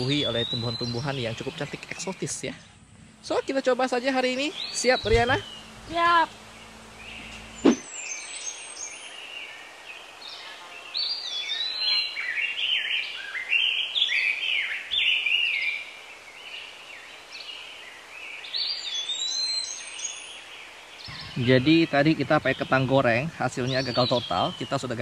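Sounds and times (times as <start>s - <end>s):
birds chirping and calling: 0.0s - 25.0s
steady outdoor hiss: 0.0s - 25.0s.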